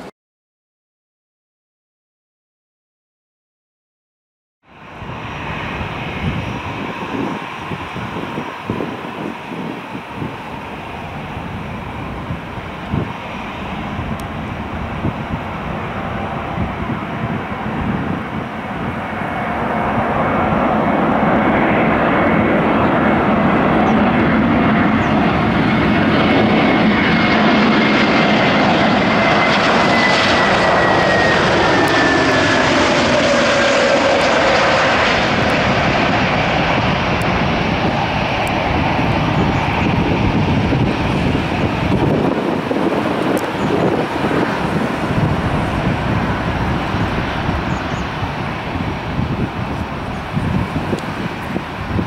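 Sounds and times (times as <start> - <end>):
jet aircraft passing: 4.7 - 52.0
jet engine whine falling in pitch: 4.7 - 52.0.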